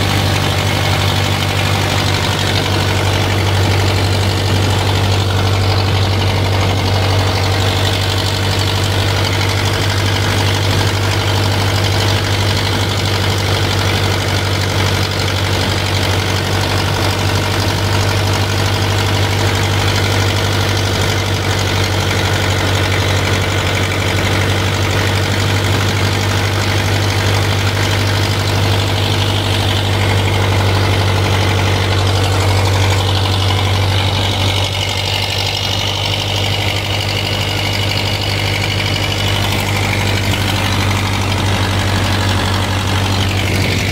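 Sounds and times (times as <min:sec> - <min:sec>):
boat engine idling: 0:00.0 - 0:43.9.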